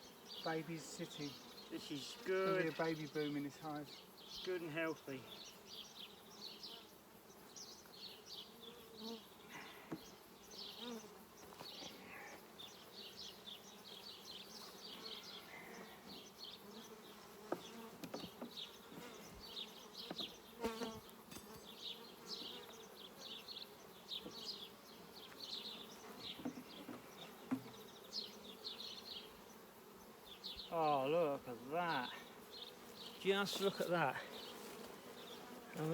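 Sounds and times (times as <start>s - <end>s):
honeybees buzzing: 0.0s - 35.9s.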